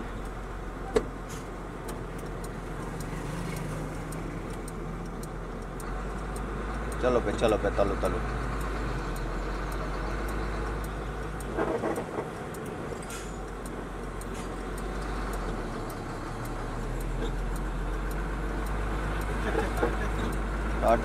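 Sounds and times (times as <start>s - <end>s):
road noise: 0.0s - 21.0s
truck engine running: 0.0s - 21.0s.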